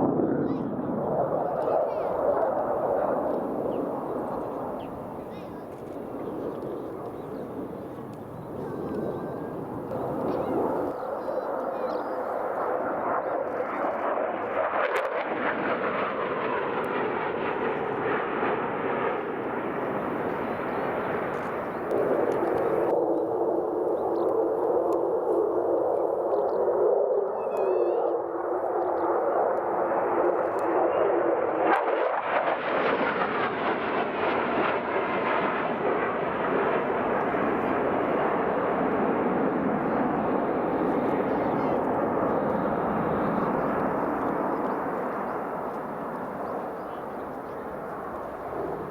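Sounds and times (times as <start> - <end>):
jet engine rushing in flight: 0.0 - 48.9.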